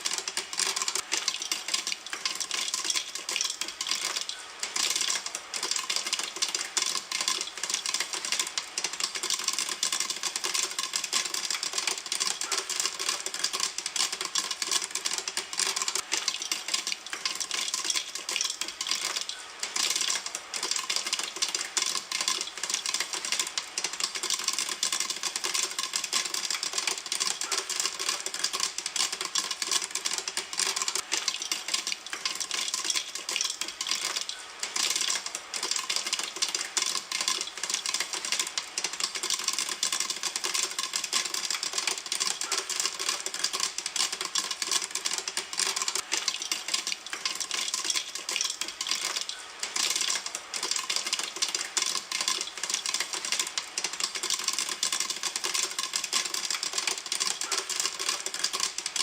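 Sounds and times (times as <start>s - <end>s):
popcorn popping in a pan: 0.0s - 59.0s.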